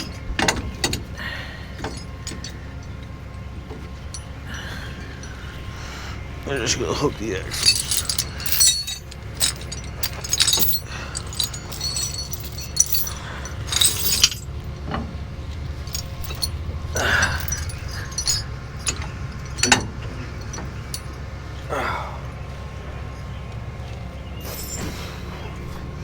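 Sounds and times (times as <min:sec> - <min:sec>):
chains clanking on metal: 0:00.0 - 0:05.8, 0:06.4 - 0:21.8, 0:24.4 - 0:25.5
steady low rumble: 0:00.0 - 0:24.4.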